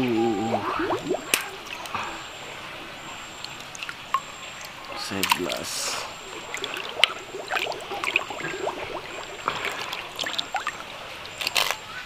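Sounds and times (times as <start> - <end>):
water splashing and dripping: 0.6 - 11.9.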